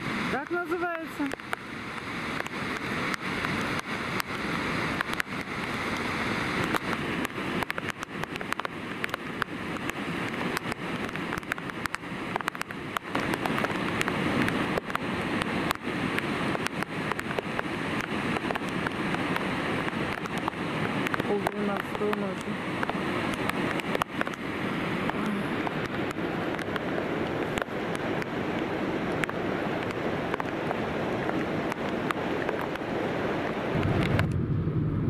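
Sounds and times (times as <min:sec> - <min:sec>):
waterfall roaring: 0:00.0 - 0:34.4
wind buffeting microphone: 0:00.0 - 0:35.0.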